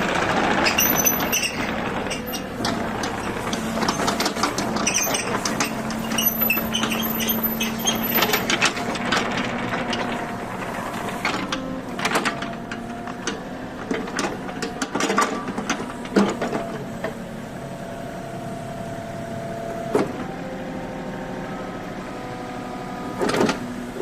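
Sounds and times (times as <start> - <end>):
diesel engine clattering: 0.0 - 20.4.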